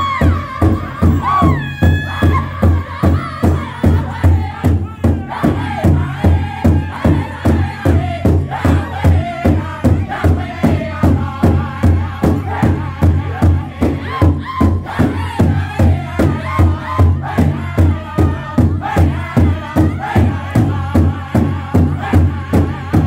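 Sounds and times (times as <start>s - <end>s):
bass drum beating: 0.0s - 23.0s
group singing in unison: 0.0s - 23.0s.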